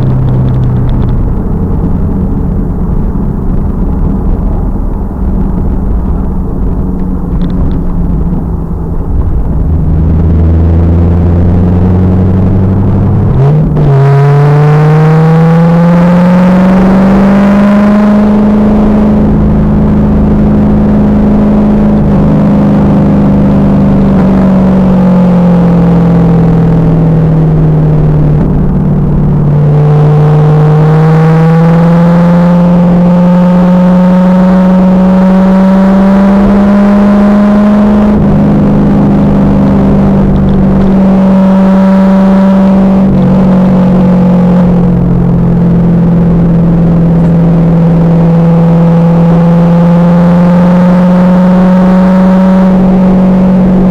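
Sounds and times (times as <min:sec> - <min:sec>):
car engine revving under load: 0:00.0 - 0:53.9.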